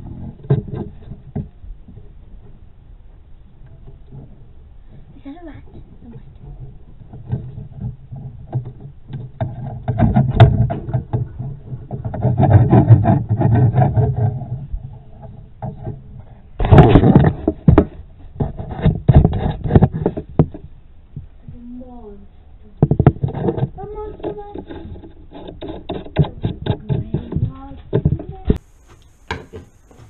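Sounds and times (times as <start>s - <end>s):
rod scraping and knocking against wood: 0.0s - 2.6s, 3.6s - 20.7s, 22.8s - 30.0s.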